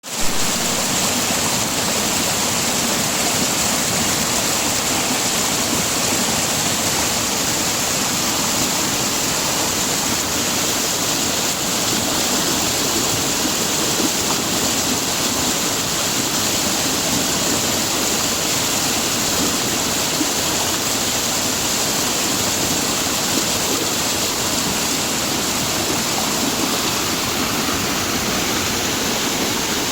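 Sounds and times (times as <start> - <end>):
waterfall splashing: 0.0 - 29.9.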